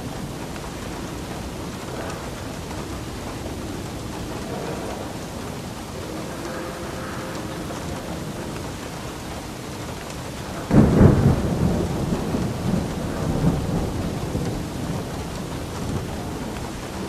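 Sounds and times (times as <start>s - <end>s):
steady rain: 0.0s - 17.0s
thunder clap and rumble: 0.0s - 17.0s.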